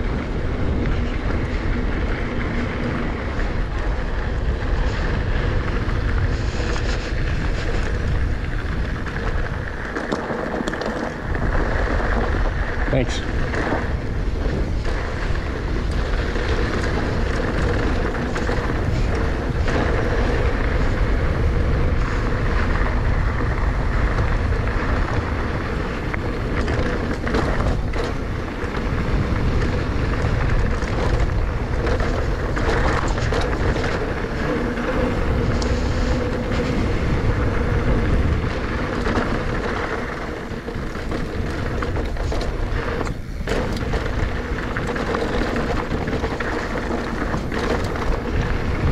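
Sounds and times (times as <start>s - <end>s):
bike rattling over bumps: 0.0s - 48.9s
tyre and wind rush: 0.0s - 48.9s.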